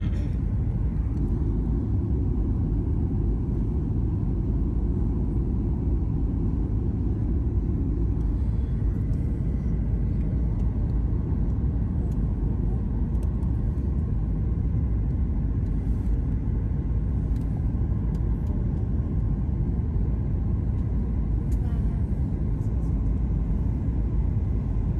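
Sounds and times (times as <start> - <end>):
steady low rumble: 0.0 - 24.9.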